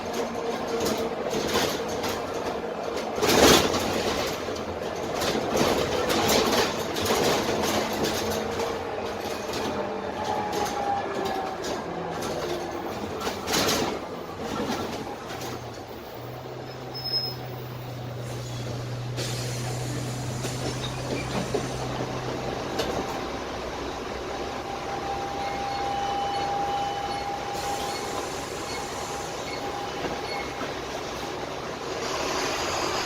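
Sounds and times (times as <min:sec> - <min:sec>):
bus diesel engine running: 0:00.0 - 0:33.0
road noise: 0:00.0 - 0:33.0.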